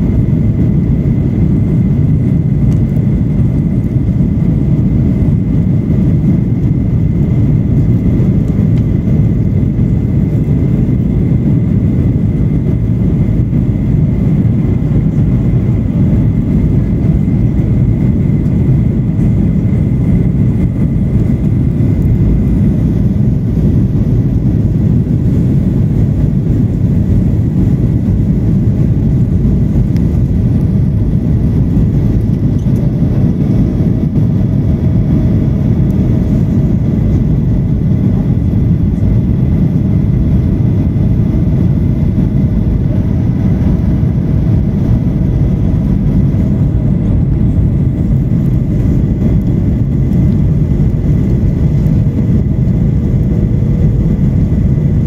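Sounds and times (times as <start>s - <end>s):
airflow past fuselage: 0.0s - 55.0s
airliner cabin jet engine rumble: 0.0s - 55.0s.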